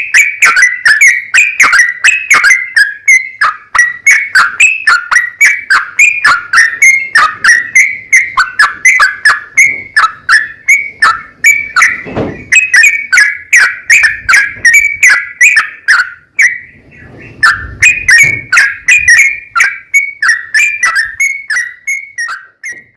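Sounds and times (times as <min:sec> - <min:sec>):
bulbul singing chattering whistles: 0:00.0 - 0:22.9.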